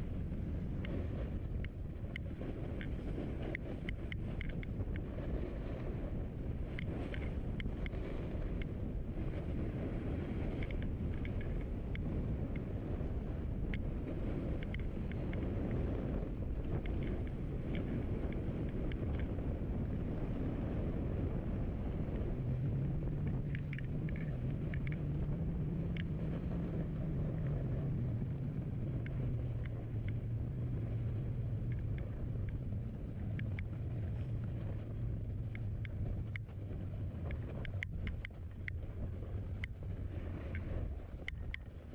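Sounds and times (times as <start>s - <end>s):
snowboard sliding over snow: 0.0s - 30.0s, 30.6s - 41.9s
wind on microphone: 0.0s - 41.9s.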